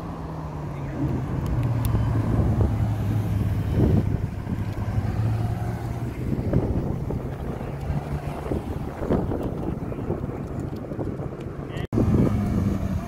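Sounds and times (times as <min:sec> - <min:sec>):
sports car engines at low revs: 0:00.0 - 0:13.0
wind noise on microphone: 0:01.0 - 0:13.0.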